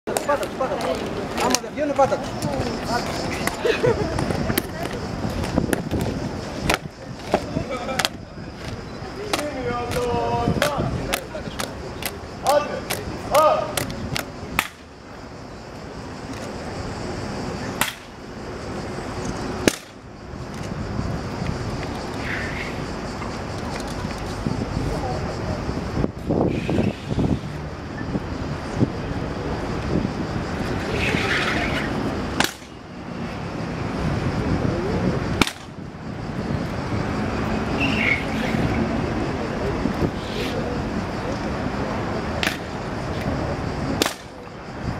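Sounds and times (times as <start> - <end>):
busy city square background noise: 0.1 - 44.9.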